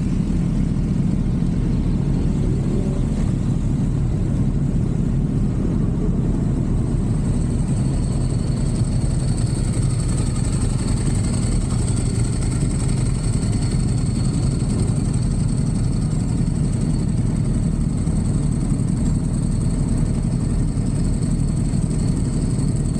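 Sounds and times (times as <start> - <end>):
faint high whine: 0.0 - 22.9
motorcycle engine rumbling: 0.0 - 22.9.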